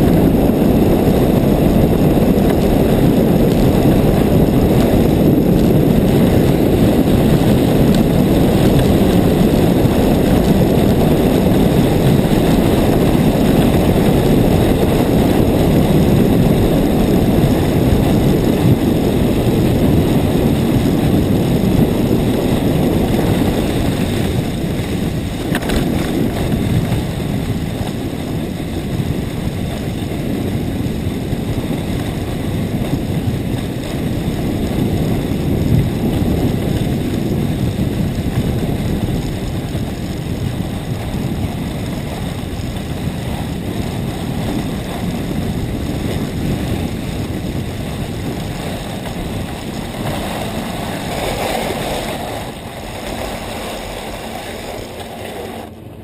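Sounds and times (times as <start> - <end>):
skis sliding over snow: 0.0 - 56.0
wind buffeting microphone: 0.0 - 56.0.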